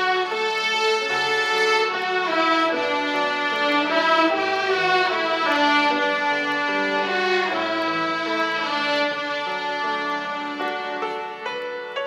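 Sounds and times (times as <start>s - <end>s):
violin ensemble playing a hymn: 0.0s - 11.7s.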